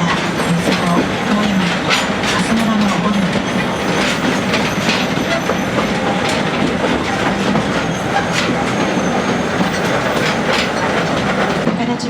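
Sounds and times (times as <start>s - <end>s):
train rumbling: 0.0s - 12.0s
wheels clacking over rail joints: 0.0s - 12.0s.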